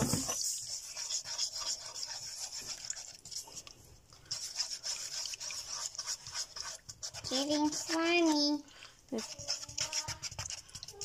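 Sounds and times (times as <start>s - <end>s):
stick scraping slime in a pan: 0.0s - 11.0s.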